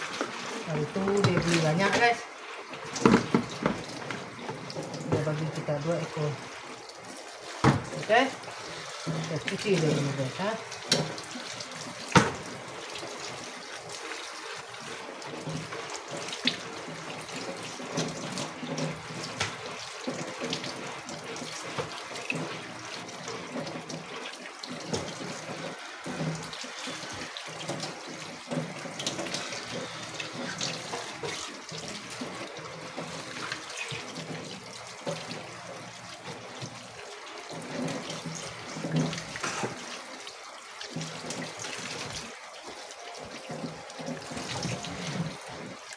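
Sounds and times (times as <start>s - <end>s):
tap running into a sink: 0.0s - 2.2s, 2.8s - 6.3s, 7.4s - 45.9s
water splashing: 0.0s - 45.9s.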